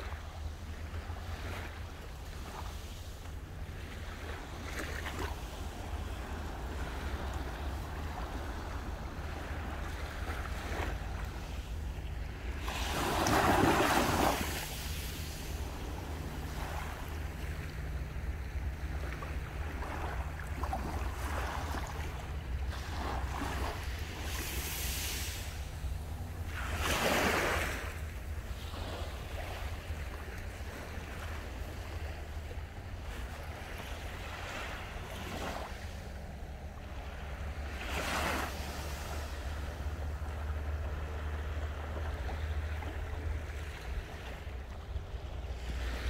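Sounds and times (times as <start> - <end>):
sea waves breaking: 0.0 - 46.0
wind rumble on microphone: 0.0 - 46.0.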